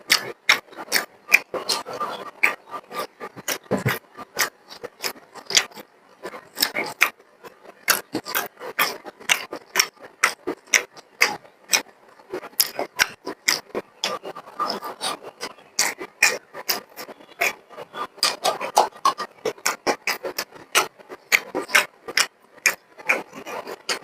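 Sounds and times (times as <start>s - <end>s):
chewing and lip-smacking: 0.0s - 24.0s.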